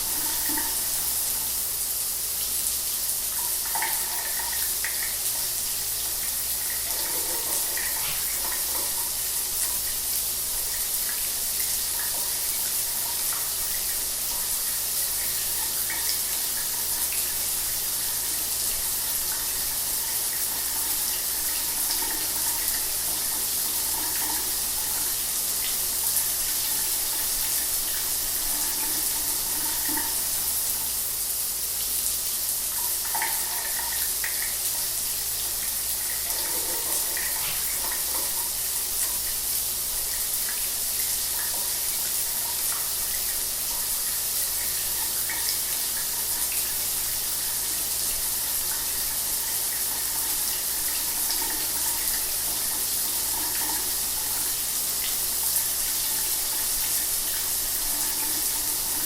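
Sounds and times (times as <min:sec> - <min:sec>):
shower running: 0:00.0 - 0:59.0.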